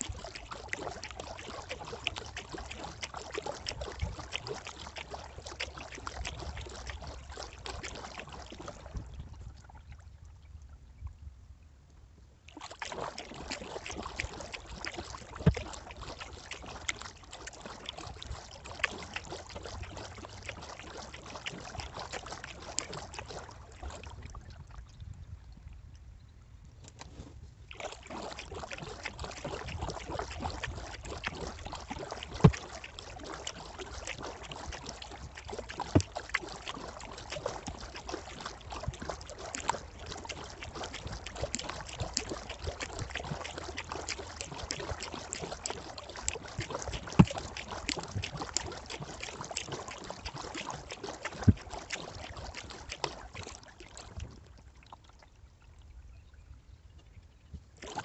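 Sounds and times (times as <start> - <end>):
paddle splashing and dripping water: 0.0 - 11.2, 12.4 - 58.0.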